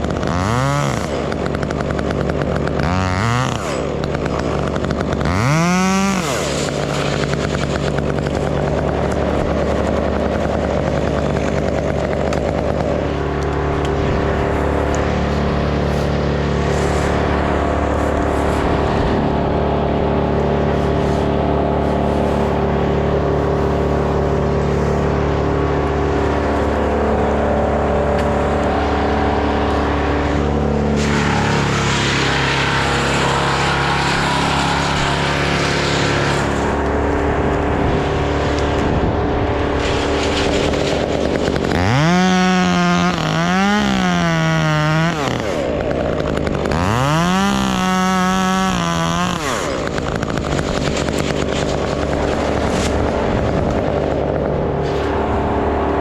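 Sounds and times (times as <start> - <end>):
chainsaw idling and revving: 0.0 - 56.0.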